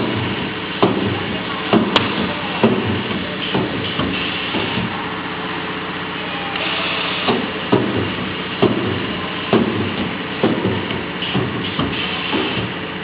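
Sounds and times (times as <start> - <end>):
welding machine hum: 0.0 - 13.0.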